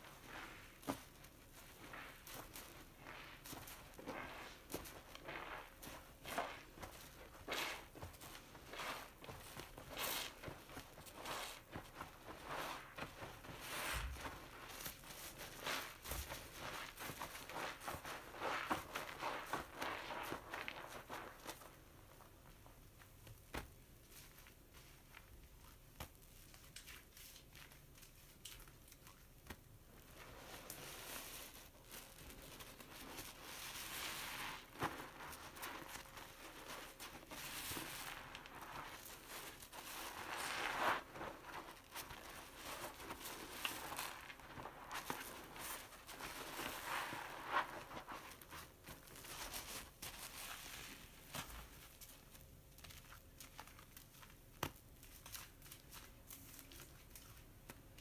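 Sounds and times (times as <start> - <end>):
sponge squelching: 0.0 - 22.4, 24.2 - 57.9.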